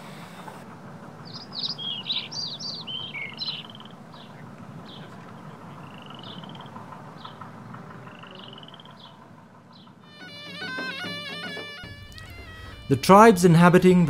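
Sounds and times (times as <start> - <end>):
birds chirping and calling: 1.2 - 14.0.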